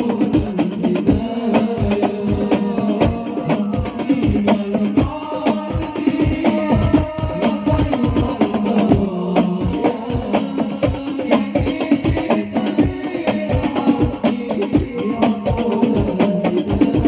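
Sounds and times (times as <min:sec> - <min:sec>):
goblet drum played fast: 0:00.0 - 0:17.0.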